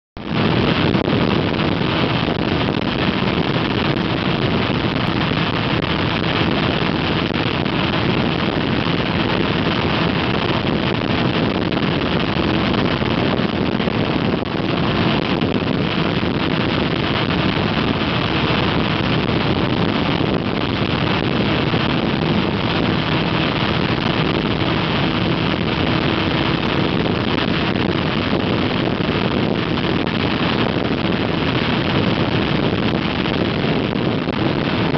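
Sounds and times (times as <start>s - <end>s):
wind rushing over microphone: 0.2s - 34.9s.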